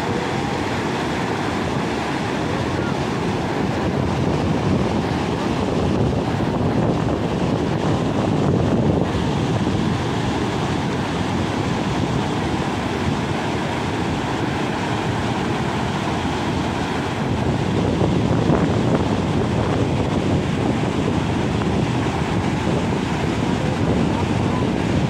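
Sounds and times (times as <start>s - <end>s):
floodwater rushing through rapids: 0.0s - 25.0s.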